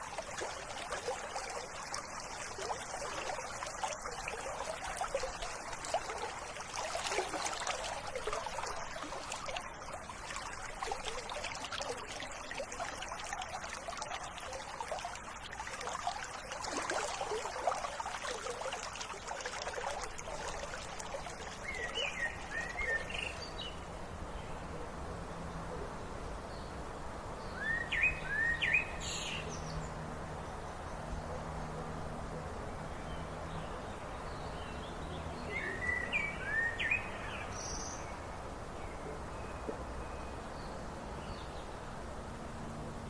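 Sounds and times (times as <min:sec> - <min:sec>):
river water babbling: 0:00.0 - 0:24.3, 0:27.0 - 0:43.0.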